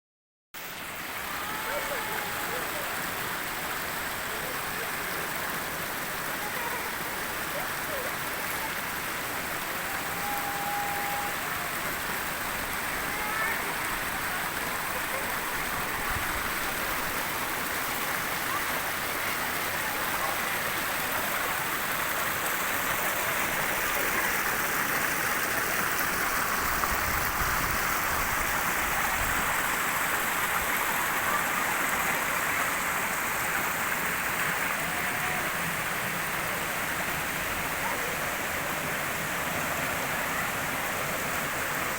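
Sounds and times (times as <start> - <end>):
running water rushing: 0.6 - 41.9.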